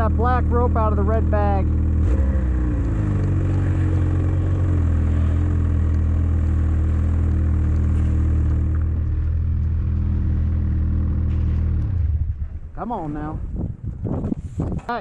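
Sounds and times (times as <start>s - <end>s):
engine idling: 0.0s - 13.3s.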